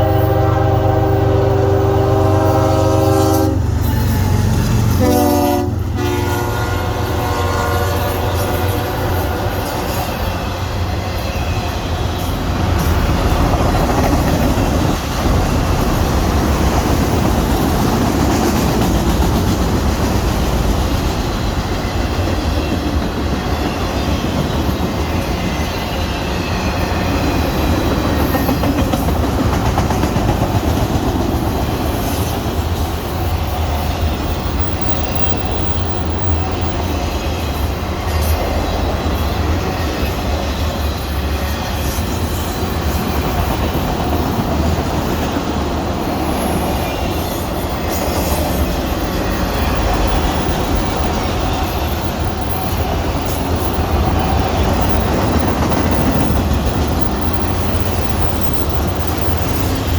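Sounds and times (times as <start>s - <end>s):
train wheels rumbling on rail: 0.0s - 59.9s
clickety-clack over rail joints: 7.1s - 59.9s.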